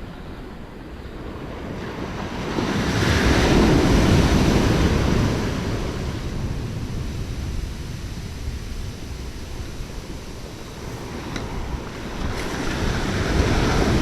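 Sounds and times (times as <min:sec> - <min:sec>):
wave breaking and washing in: 0:00.0 - 0:14.0
wind on microphone: 0:00.0 - 0:14.0.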